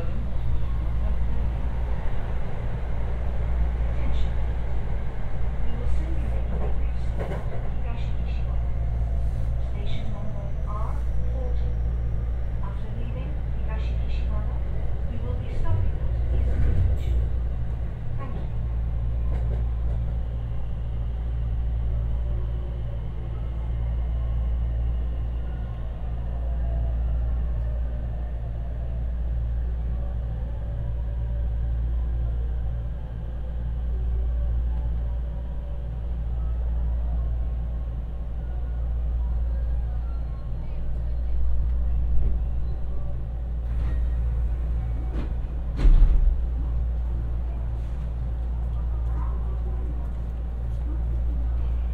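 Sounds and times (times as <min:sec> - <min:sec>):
train wheels rumbling on rails: 0:00.0 - 0:36.0, 0:39.6 - 0:51.9.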